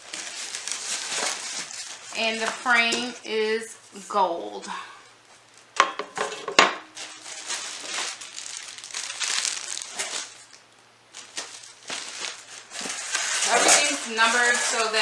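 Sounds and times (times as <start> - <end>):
packing material crinkling: 0.0 - 4.0, 6.8 - 15.0.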